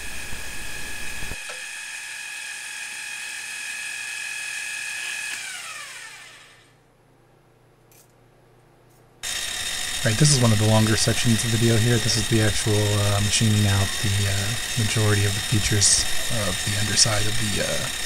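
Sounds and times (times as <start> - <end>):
loud machine sound: 0.0 - 6.7, 9.2 - 18.0
spindle motor whining: 0.0 - 6.8, 9.2 - 18.0.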